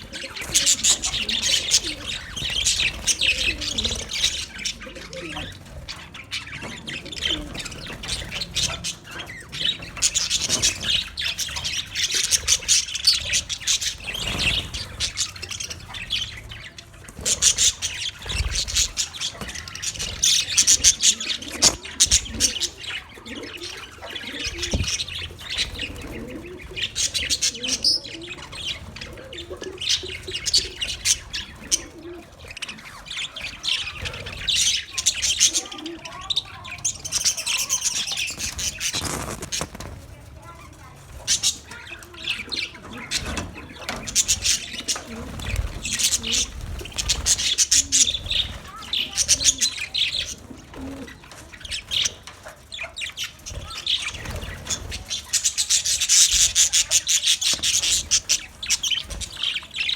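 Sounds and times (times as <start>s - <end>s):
flock of budgerigars chirping: 0.0s - 59.9s.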